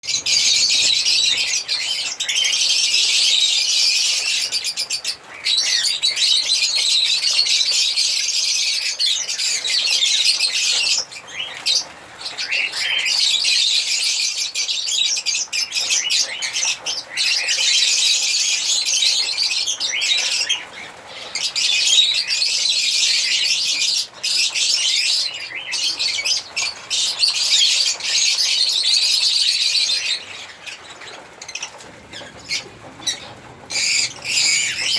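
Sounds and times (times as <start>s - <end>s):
lovebirds chirping and chattering: 0.0s - 34.9s.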